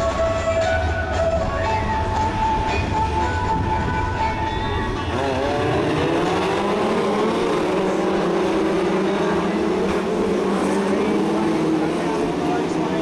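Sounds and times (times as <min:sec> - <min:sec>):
racing car engines accelerating: 0:01.8 - 0:13.0.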